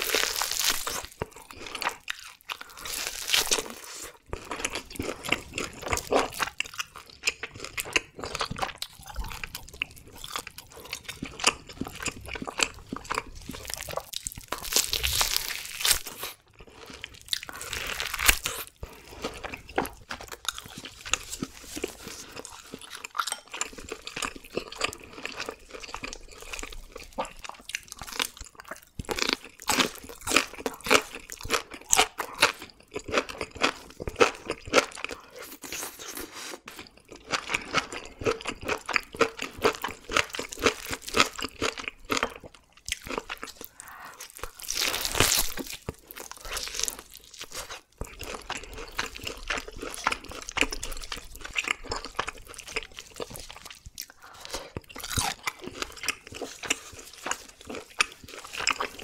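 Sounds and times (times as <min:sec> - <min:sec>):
person chewing and biting food: 0:00.0 - 0:59.0.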